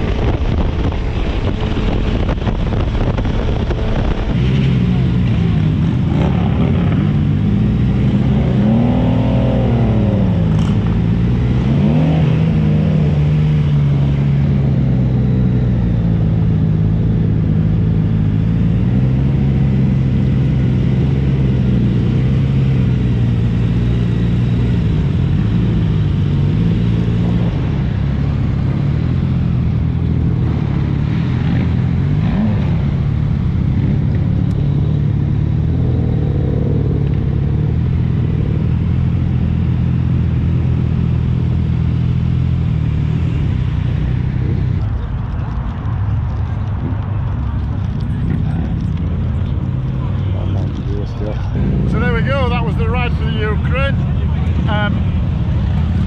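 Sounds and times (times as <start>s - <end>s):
motorcycle engine revving: 0.0s - 45.3s
motorcycle engines droning: 0.0s - 56.0s.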